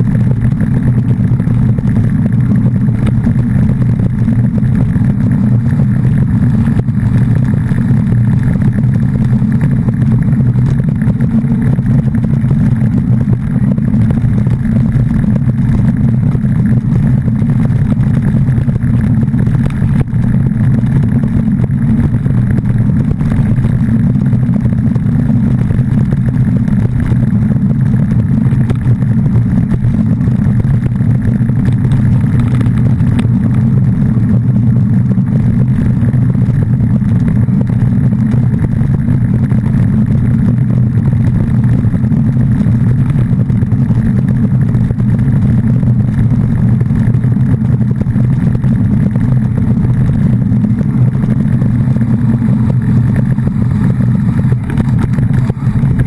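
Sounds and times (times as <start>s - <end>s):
wind and road roar: 0.0s - 56.0s.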